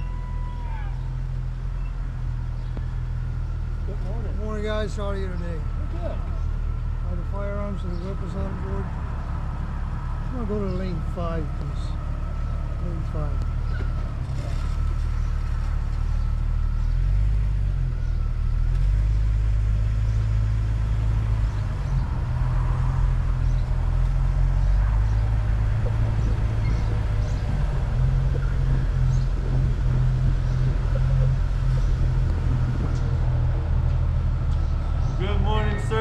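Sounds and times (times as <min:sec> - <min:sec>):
car engine running low drone: 0:00.0 - 0:36.0.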